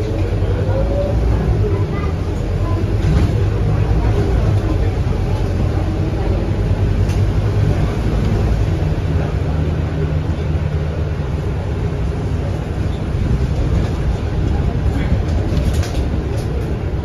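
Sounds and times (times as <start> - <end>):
bus engine low hum: 0.0 - 17.0
tyres on wet road: 0.0 - 17.0.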